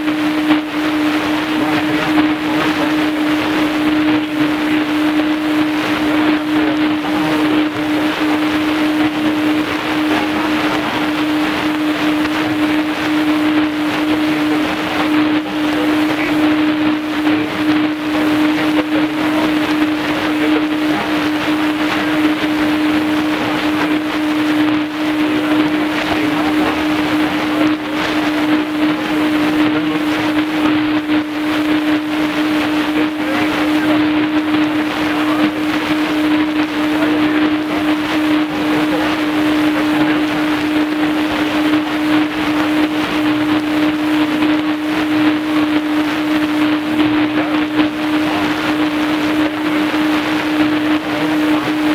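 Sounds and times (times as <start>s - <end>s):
shortwave static hiss: 0.0s - 51.9s
steady low-pitched tone: 0.0s - 51.9s.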